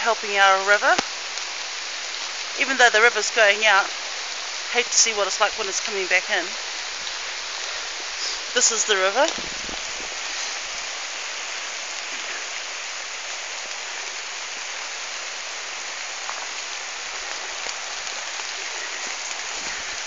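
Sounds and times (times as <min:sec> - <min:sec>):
rain on leaves and ground: 0:00.0 - 0:20.0.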